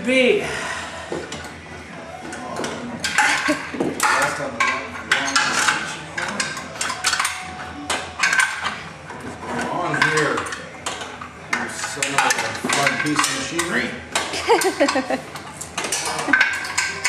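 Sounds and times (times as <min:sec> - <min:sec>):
hand tools clanking on metal: 0:02.3 - 0:17.0.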